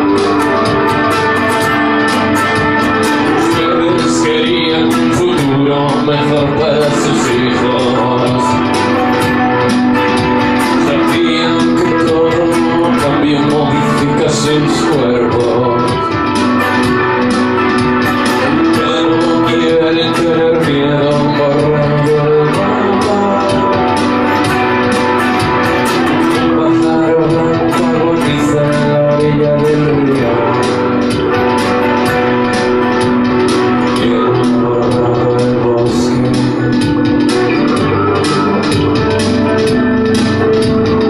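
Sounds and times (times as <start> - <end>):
electric guitar rock music: 0.0 - 41.0
steady ticking beat: 0.0 - 41.0.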